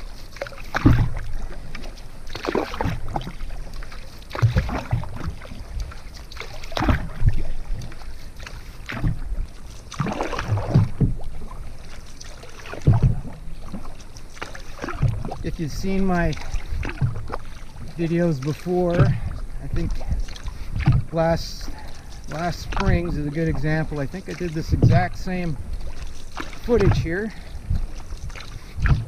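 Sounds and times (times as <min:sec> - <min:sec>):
paddle splashing in water: 0:00.0 - 0:29.0.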